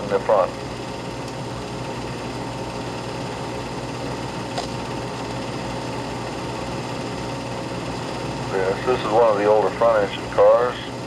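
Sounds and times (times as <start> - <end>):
film projector running: 0.0 - 11.0.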